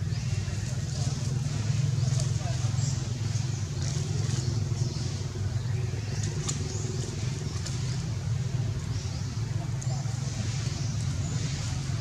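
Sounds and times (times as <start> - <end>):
low engine-like hum: 0.0 - 12.0.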